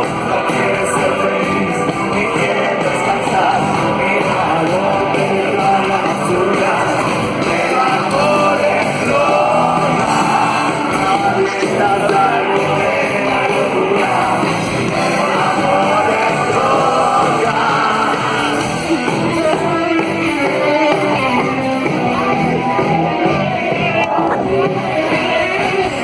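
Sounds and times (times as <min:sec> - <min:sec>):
live rock band playing: 0:00.0 - 0:26.0
voices singing or shouting: 0:00.0 - 0:26.0.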